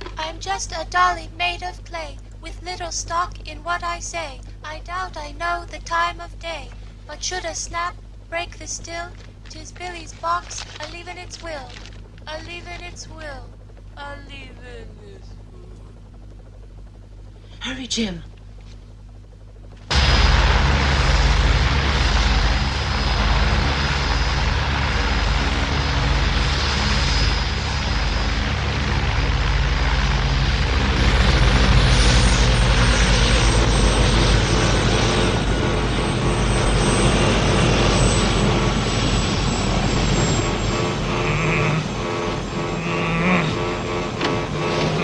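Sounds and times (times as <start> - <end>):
helicopter rotor beating: 0.0 - 45.0
thin high whine: 0.0 - 45.0
turbine engine whine: 0.0 - 45.0.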